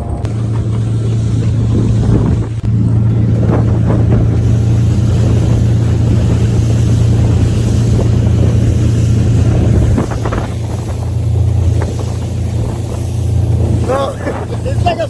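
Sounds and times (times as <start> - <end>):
motorboat engine hum: 0.0 - 15.0
rush of wind and water: 0.0 - 15.0
wind buffeting microphone: 0.0 - 15.0.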